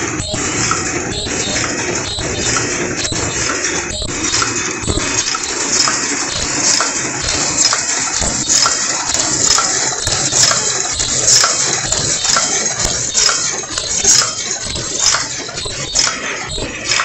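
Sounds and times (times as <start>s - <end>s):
paper cup machine clattering: 0.0s - 17.0s
sharp metallic clicks: 0.0s - 17.0s.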